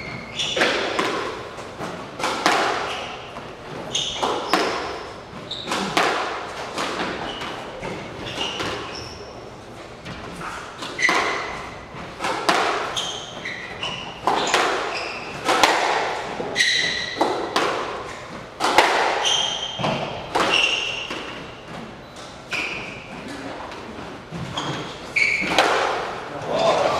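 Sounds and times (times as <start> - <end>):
shoes squeaking on wooden floor: 0.0 - 26.9
squash ball hitting rackets and walls: 0.0 - 26.9.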